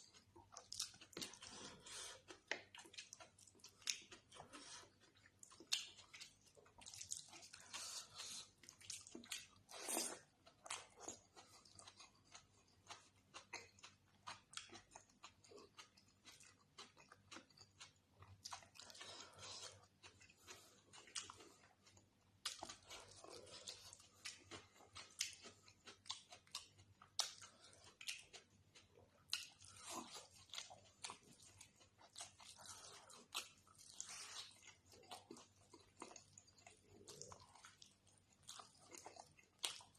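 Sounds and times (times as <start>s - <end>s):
chewing and eating: 0.0s - 39.9s.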